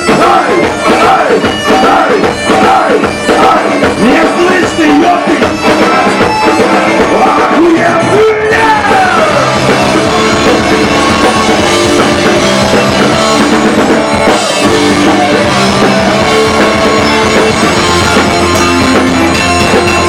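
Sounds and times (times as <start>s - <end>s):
distorted electric guitars: 0.0s - 20.0s
drum kit: 0.0s - 20.0s.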